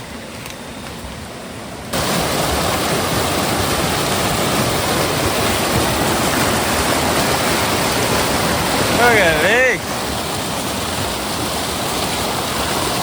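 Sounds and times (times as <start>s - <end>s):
river water rushing: 1.4s - 13.0s.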